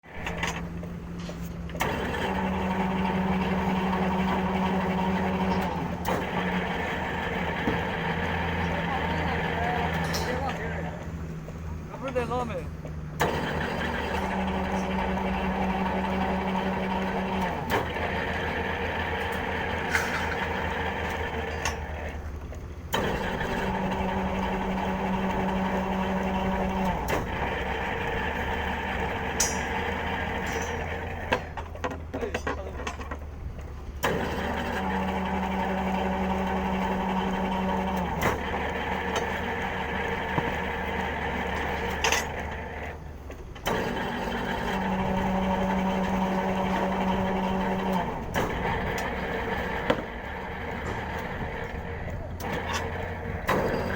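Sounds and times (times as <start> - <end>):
bending machine motor hum: 0.0 - 53.9.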